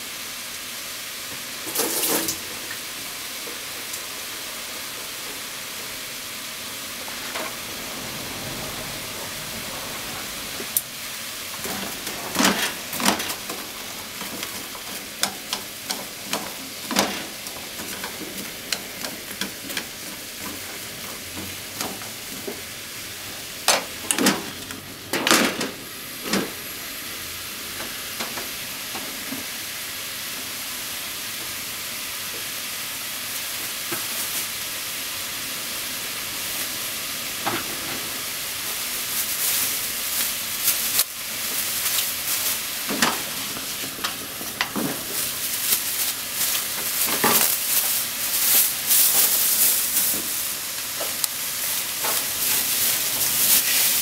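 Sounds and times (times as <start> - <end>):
food frying in oil: 0.0 - 54.0.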